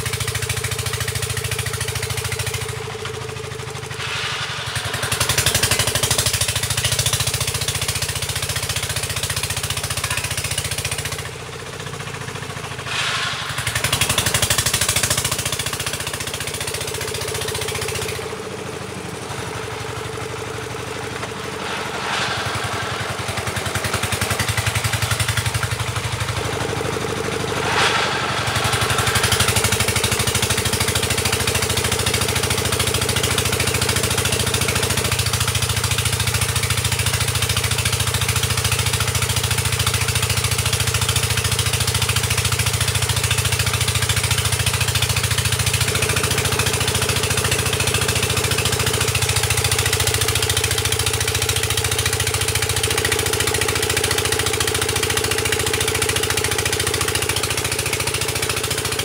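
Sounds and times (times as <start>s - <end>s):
drilling rig engine running: 0.0s - 59.0s.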